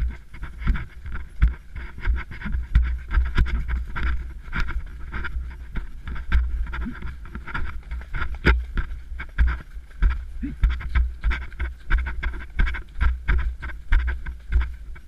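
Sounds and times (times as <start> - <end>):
horse hooves on snow: 0.0 - 15.0
low rumble of camera: 0.0 - 15.0.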